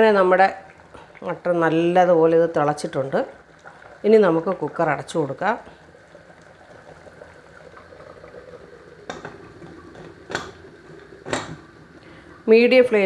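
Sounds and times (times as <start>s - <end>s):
curry bubbling in pressure cooker: 0.0s - 13.0s.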